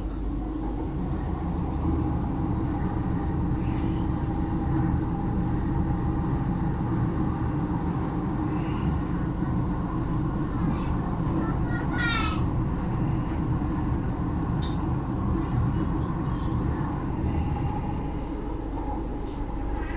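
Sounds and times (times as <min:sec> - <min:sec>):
train rumbling at speed: 0:00.0 - 0:19.9.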